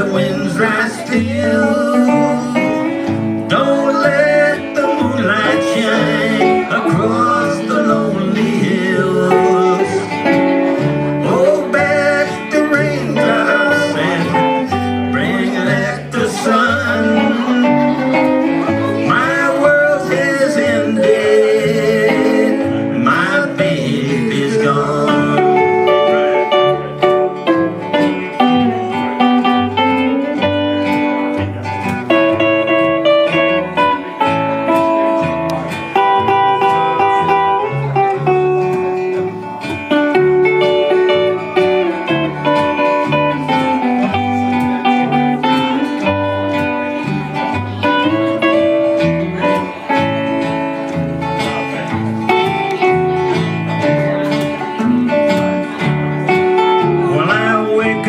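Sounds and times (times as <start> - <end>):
electric guitar lead line: 0.0 - 58.0
plucked upright bass: 0.0 - 58.0
strummed acoustic guitar: 0.0 - 58.0.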